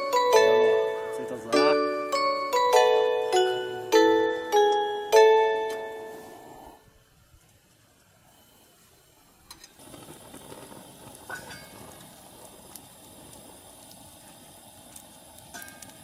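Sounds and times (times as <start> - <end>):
gas burner hissing: 0.0 - 16.0.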